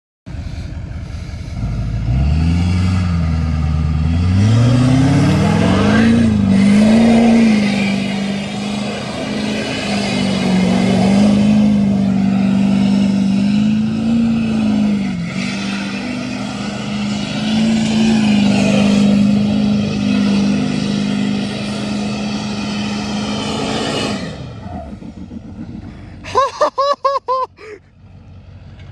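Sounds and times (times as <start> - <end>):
diesel engine revving: 0.3 - 28.9.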